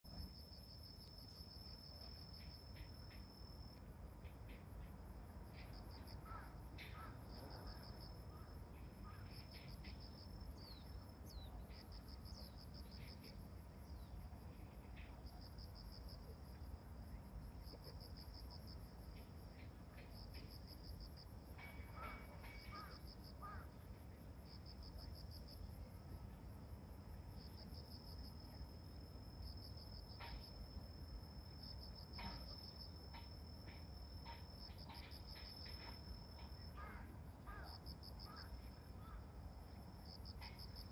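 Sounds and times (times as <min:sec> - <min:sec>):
insects trilling: 0:00.1 - 0:40.9.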